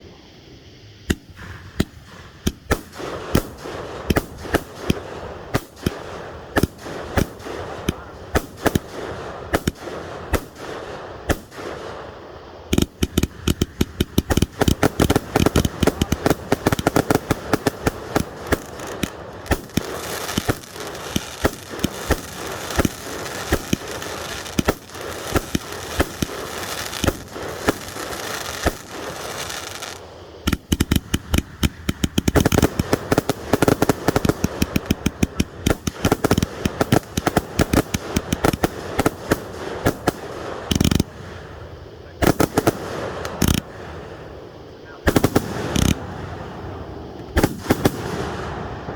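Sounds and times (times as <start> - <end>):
firework crackling: 0.0 - 48.9
firework cake bangs: 1.1 - 41.4.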